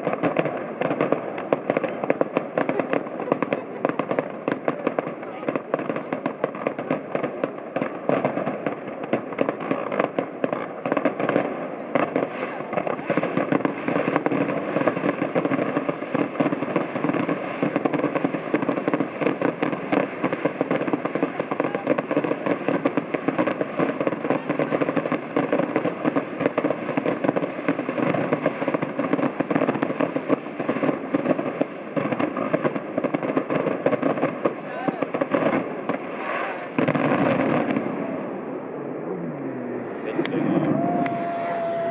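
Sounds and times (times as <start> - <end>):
fireworks crackling: 0.0 - 41.9.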